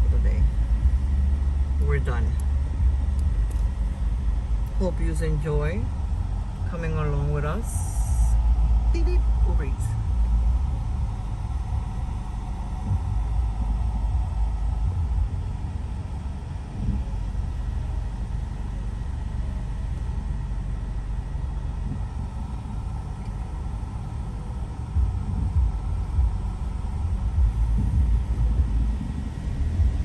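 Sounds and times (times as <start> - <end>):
vehicle road rumble: 0.0 - 30.0.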